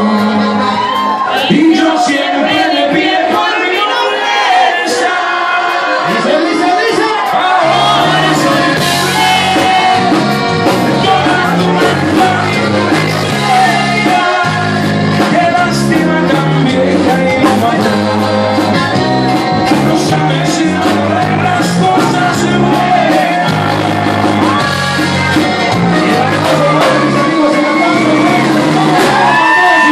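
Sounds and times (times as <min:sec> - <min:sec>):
man singing: 0:00.0 - 0:18.7, 0:19.6 - 0:24.6, 0:25.8 - 0:29.9
band playing: 0:00.0 - 0:29.9
shouts over music: 0:00.2 - 0:16.4, 0:17.8 - 0:29.9.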